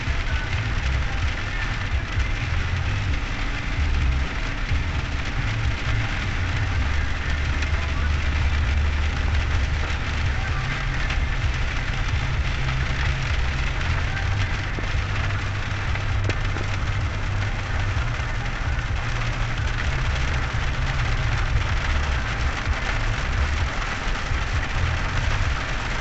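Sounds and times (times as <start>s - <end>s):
car driving on wet road: 0.0s - 26.0s
rain on car windshield: 0.0s - 26.0s.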